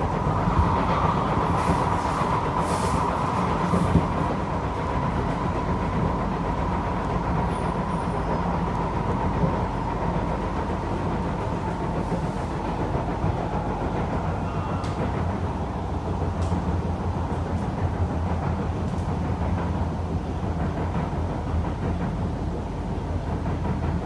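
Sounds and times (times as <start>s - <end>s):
train cabin rumble: 0.0s - 24.0s.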